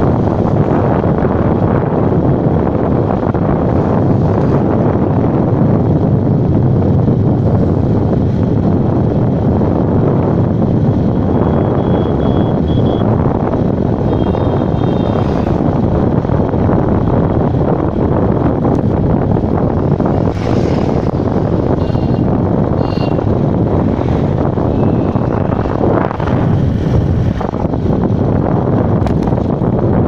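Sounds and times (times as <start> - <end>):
road noise: 0.0 - 30.0
vehicle engine: 0.0 - 30.0
wind buffeting microphone: 0.0 - 30.0.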